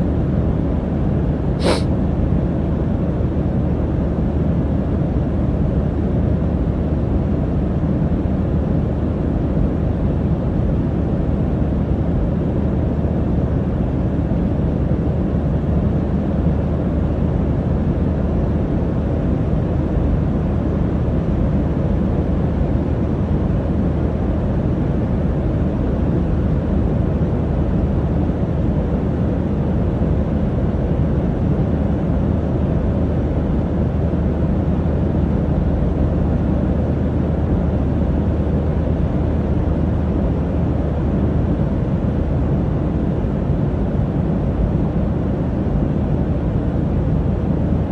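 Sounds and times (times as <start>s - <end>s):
airliner cabin drone: 0.0s - 47.9s.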